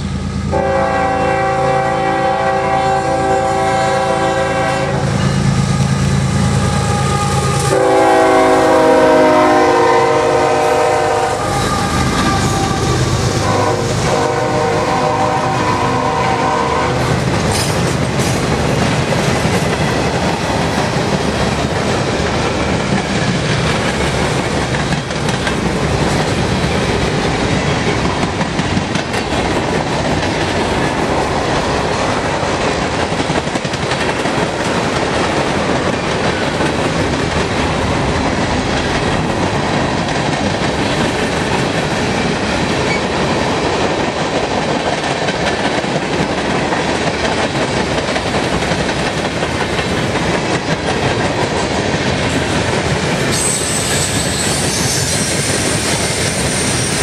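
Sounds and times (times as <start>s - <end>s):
train wheels running on rails: 0.0s - 57.0s.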